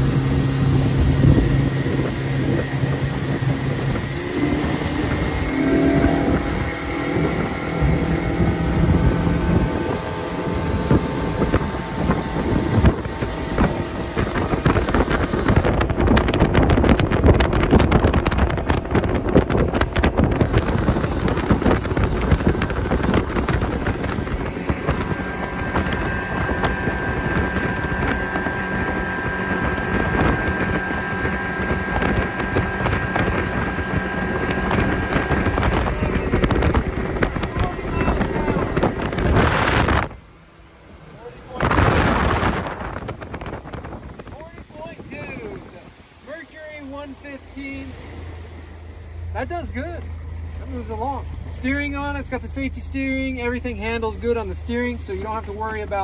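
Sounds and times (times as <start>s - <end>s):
outboard motor whining: 0.0s - 56.0s
rushing water: 0.0s - 56.0s
wind buffeting: 0.0s - 56.0s.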